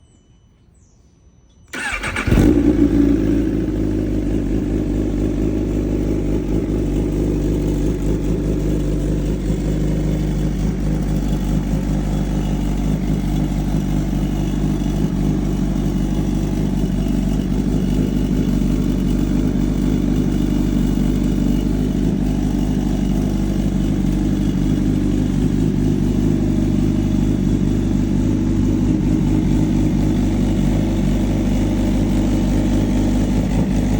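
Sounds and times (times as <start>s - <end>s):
motorcycle engine starting and idling: 1.7s - 33.9s.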